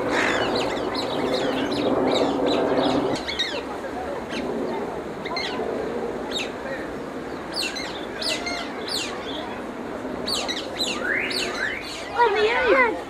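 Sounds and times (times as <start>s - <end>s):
small birds chirping: 0.0s - 3.7s, 4.3s - 9.6s, 10.2s - 12.7s
background murmur: 0.0s - 13.0s.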